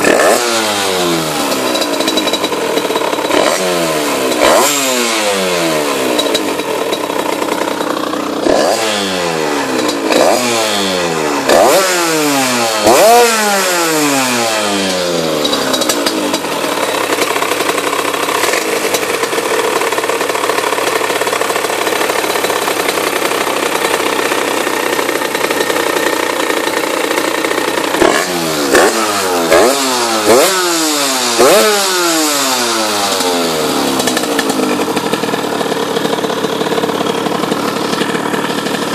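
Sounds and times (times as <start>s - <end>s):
moped engine revving and idling: 0.0s - 38.9s.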